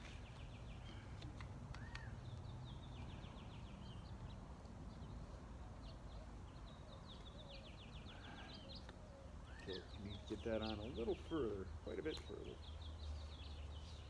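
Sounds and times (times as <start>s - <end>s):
birds singing high falling notes: 1.7s - 14.0s.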